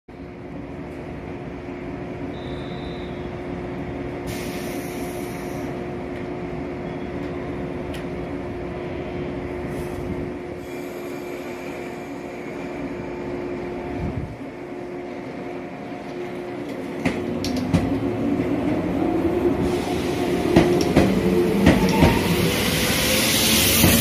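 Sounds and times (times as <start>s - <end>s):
train wheels rumbling on rails: 2.3s - 24.0s.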